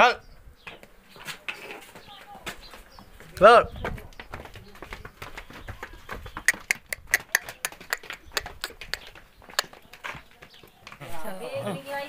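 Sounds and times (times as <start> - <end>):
goat hooves clicking on hard floor: 0.7 - 11.1.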